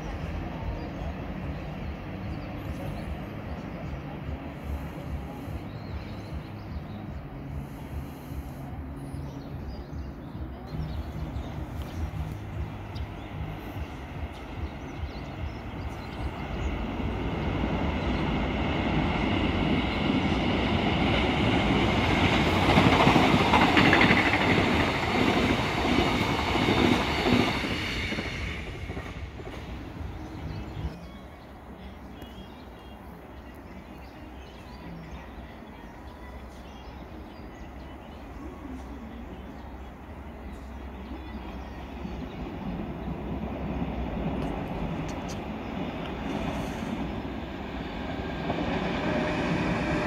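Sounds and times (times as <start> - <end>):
passenger train passing: 0.0 - 50.0.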